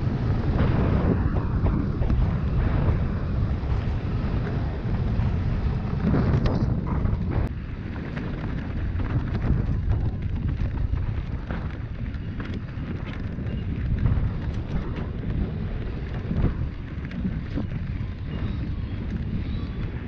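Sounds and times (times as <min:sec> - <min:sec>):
bike knocks and rattles: 0:00.0 - 0:20.0
tyres rumbling on dirt: 0:00.0 - 0:20.0
wind buffeting microphone: 0:00.0 - 0:20.0.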